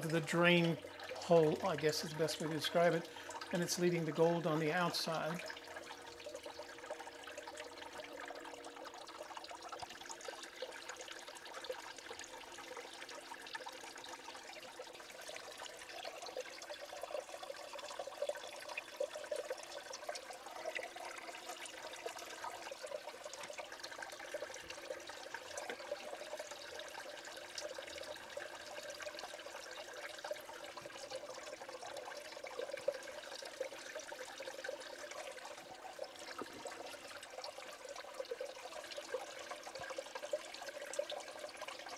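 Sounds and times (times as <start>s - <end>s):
water swirling and trickling: 0.0s - 41.9s.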